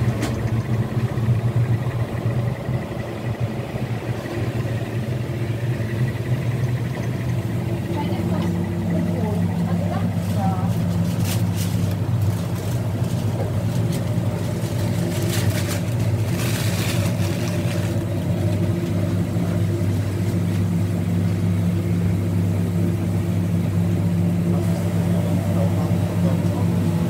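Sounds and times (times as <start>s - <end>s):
kitchen equipment hum: 0.0s - 27.0s.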